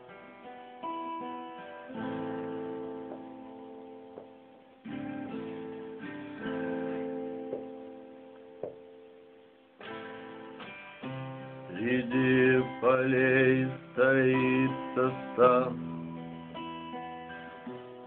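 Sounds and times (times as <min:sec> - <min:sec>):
acoustic guitar strummed chords: 0:00.0 - 0:18.0.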